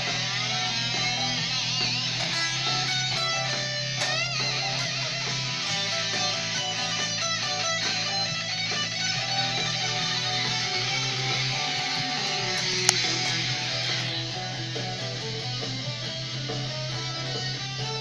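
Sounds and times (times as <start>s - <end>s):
electric guitar single-note run: 0.0s - 18.0s.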